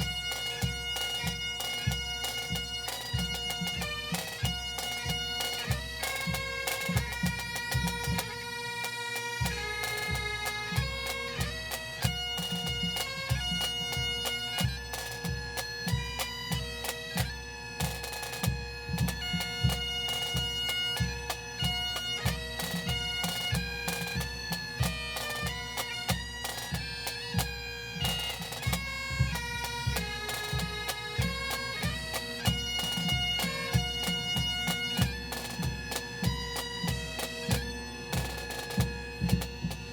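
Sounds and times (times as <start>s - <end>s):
bagpipes playing melody: 0.0s - 39.9s
snare drums: 0.0s - 39.9s.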